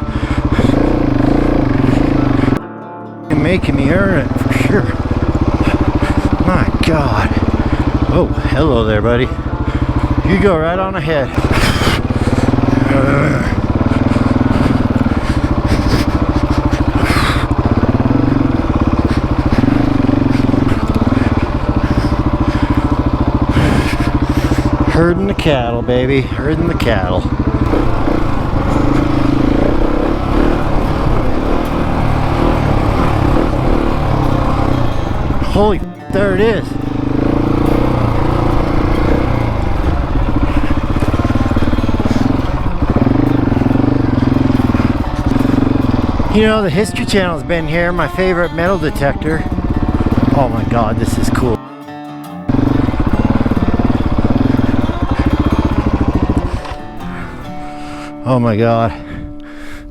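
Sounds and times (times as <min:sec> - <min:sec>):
motorcycle engine at low revs: 0:00.0 - 0:02.6, 0:03.3 - 0:51.6, 0:52.5 - 0:58.3.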